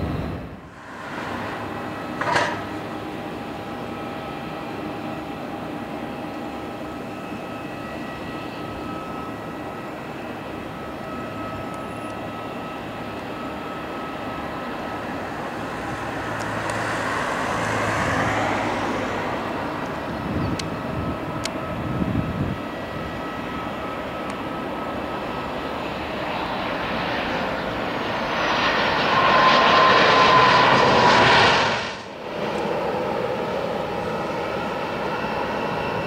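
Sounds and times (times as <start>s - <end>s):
jet airliner engine whine: 0.0s - 36.0s.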